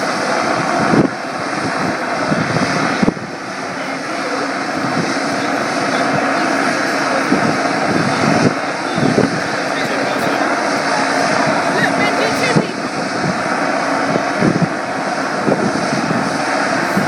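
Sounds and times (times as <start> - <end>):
helicopter hovering: 0.0 - 17.0.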